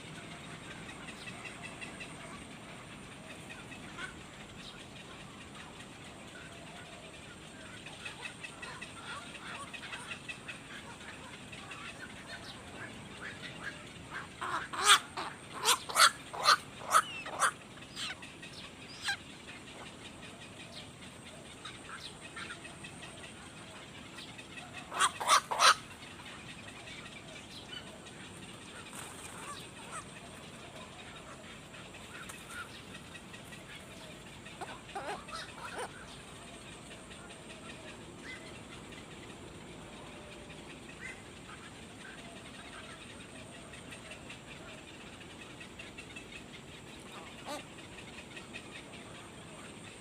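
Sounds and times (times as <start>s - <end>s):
faint bird chirping: 0.0s - 50.0s
small birds sharp calls: 0.0s - 50.0s.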